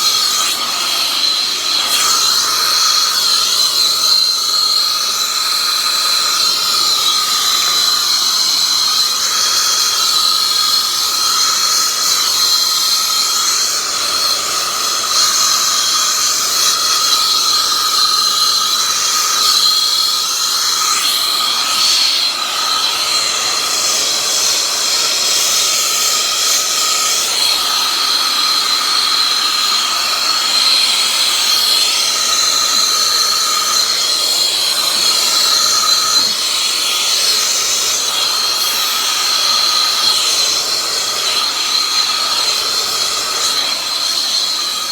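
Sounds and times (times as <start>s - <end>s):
soldering torch hissing: 0.0s - 44.9s.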